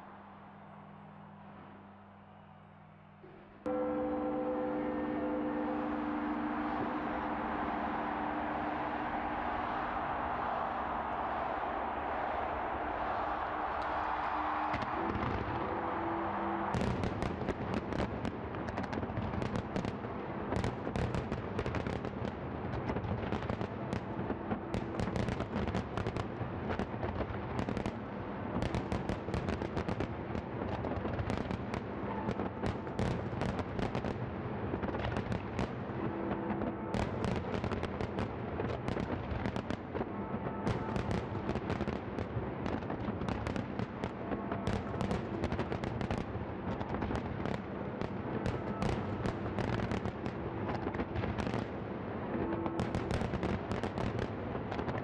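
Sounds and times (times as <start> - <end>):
fireworks bangs and crackles: 5.1 - 55.0.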